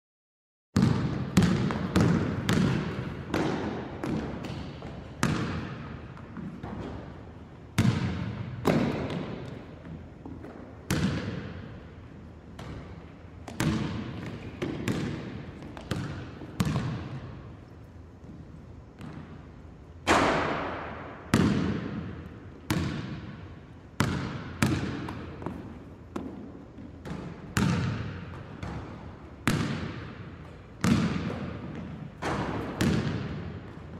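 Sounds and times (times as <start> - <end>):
basketball bouncing with echo: 0.8 - 17.6, 18.2 - 33.9.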